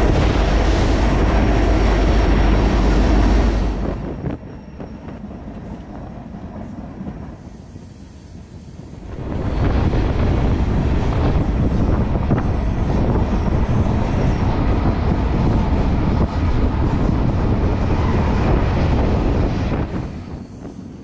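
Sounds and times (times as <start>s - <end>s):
freight train rumbling: 0.0s - 21.0s
wind buffeting microphone: 0.0s - 21.0s.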